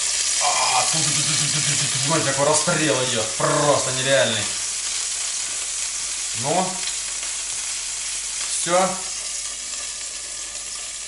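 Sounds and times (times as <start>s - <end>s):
dumplings sizzling in oil: 0.0s - 11.0s
hot oil crackling spatter: 0.0s - 11.0s.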